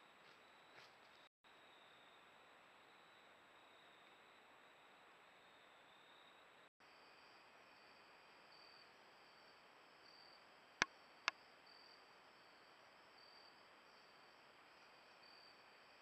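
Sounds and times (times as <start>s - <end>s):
faint insects chirping: 0.0s - 16.0s.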